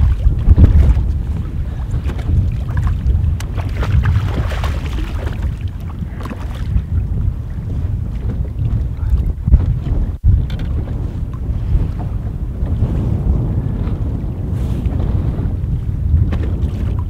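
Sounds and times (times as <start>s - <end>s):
water slapping boat hull: 0.0s - 17.0s
wind buffeting microphone: 0.0s - 17.0s.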